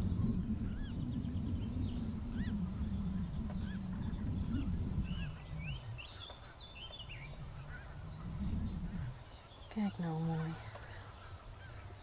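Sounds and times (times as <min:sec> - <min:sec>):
low rumble: 0:00.0 - 0:11.4
birds chirping: 0:00.0 - 0:12.0.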